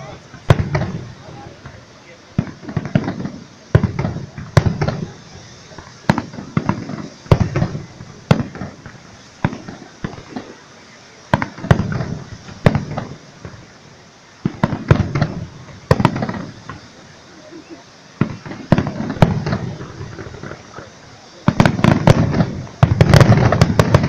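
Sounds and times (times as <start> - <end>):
fireworks shells bursting: 0.0 - 24.0.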